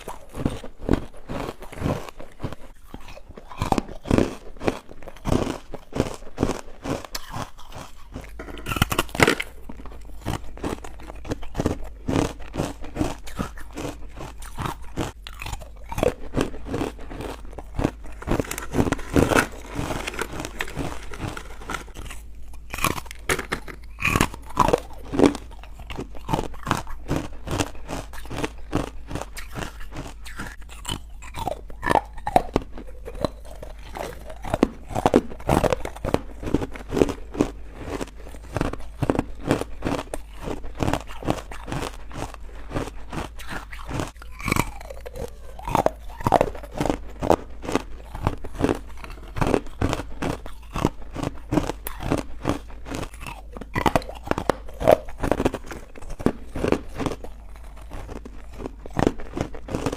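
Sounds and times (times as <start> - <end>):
person chewing crunchy candy: 0.0 - 59.9.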